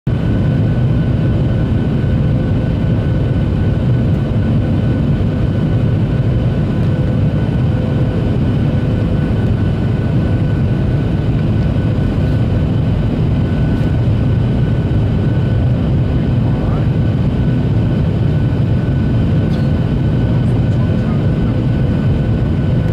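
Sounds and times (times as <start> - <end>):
airplane cabin roar: 0.1 - 22.9.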